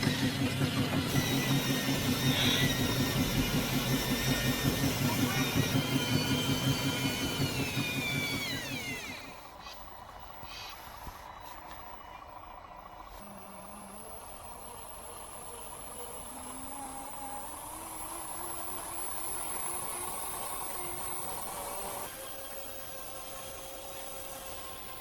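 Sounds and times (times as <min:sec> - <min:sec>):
electric motor and gears whining: 0:00.0 - 0:25.0
thin high whine: 0:01.1 - 0:25.0.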